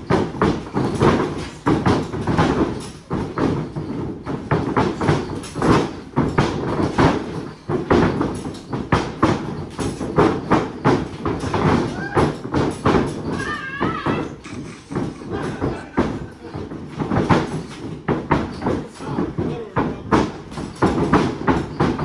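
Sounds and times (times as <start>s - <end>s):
bodies thudding on mat: 0.0s - 22.0s
feet pounding on mat: 0.0s - 22.0s.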